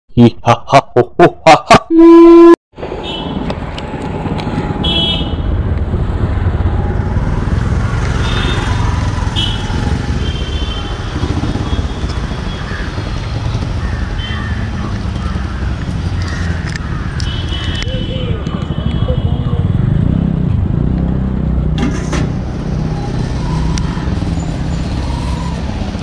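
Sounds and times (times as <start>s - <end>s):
scooters and motorbikes running: 2.8s - 26.0s.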